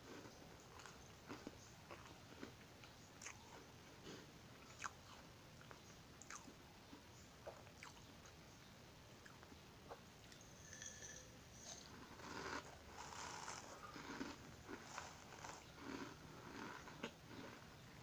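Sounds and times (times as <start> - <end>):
crunching and chewing: 0.0 - 8.4, 9.2 - 18.0.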